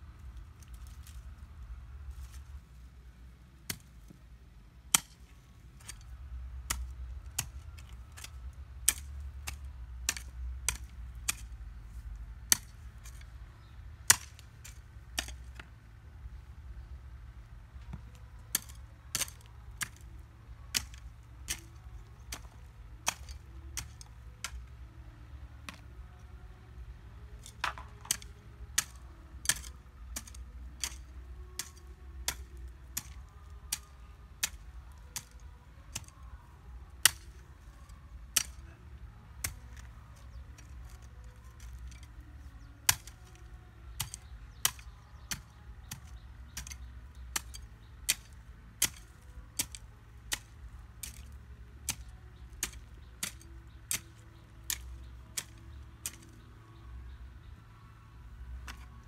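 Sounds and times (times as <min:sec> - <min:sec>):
low steady rumble: 0:00.0 - 0:59.0.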